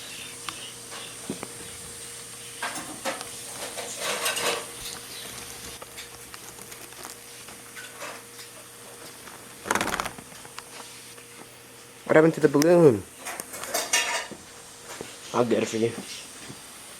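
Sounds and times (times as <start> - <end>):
faint electrical hum: 0.0 - 16.9.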